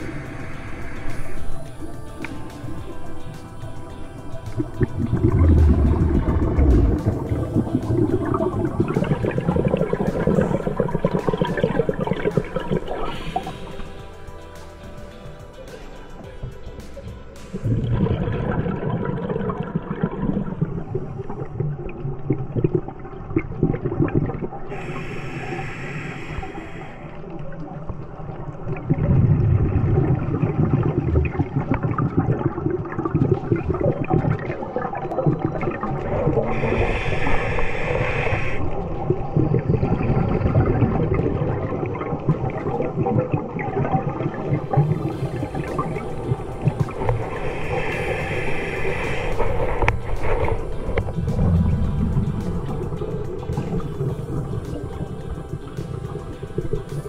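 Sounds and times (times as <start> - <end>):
low underwater rumble with crackle: 0.0 - 13.1, 17.5 - 56.9
scuba regulator exhaust bubbles: 4.4 - 14.0, 17.5 - 57.0.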